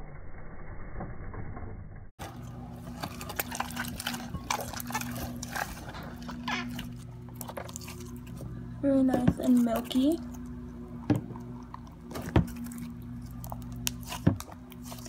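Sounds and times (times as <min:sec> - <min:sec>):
low steady hum: 0:02.2 - 0:15.0
slime squelching: 0:02.2 - 0:15.0.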